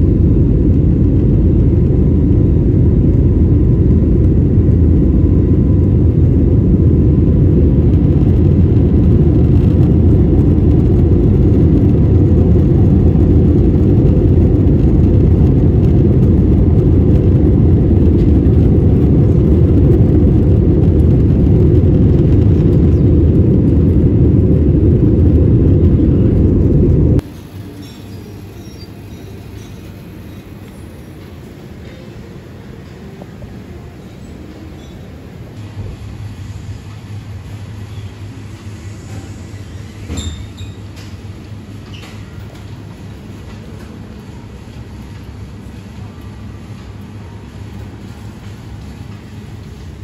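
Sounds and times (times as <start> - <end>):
jet cabin engine rumble: 0.0 - 50.0.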